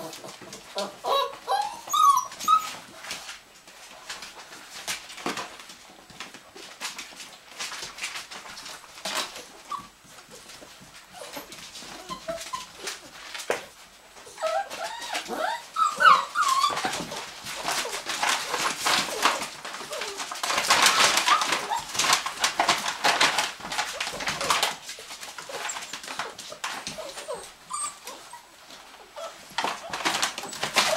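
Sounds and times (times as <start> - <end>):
puppies whimpering and squeaking: 0.0 - 4.2, 8.6 - 30.9.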